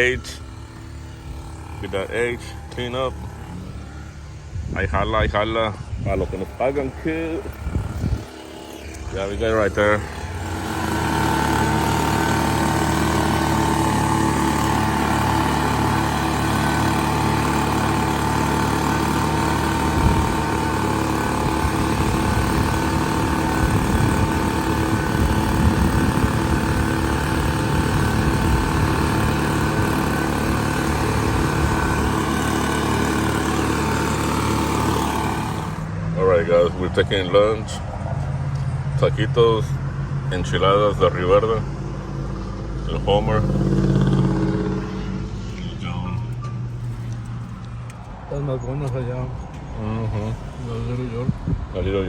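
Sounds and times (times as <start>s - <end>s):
engine running with high whine: 0.0s - 52.0s.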